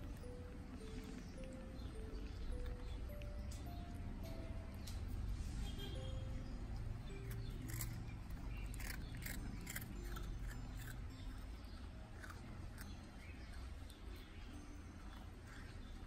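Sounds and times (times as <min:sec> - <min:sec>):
puppy crunching a biscuit: 0:00.0 - 0:04.9, 0:06.8 - 0:16.0.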